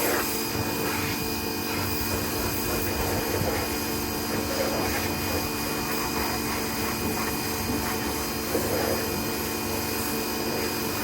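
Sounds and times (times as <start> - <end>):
cleaning machine motor droning: 0.0 - 11.0.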